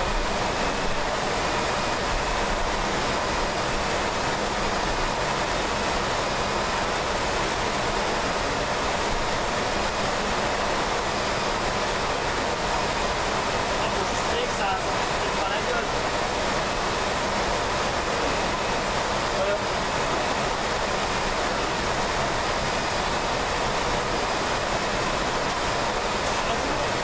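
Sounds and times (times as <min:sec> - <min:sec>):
steady rushing air noise: 0:00.0 - 0:27.0.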